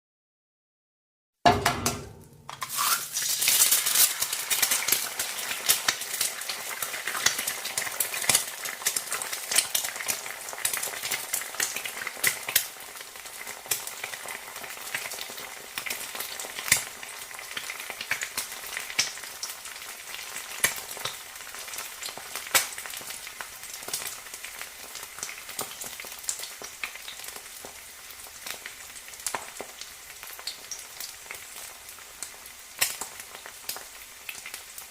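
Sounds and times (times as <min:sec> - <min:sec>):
egg sizzling in a pan: 0:02.4 - 0:34.9.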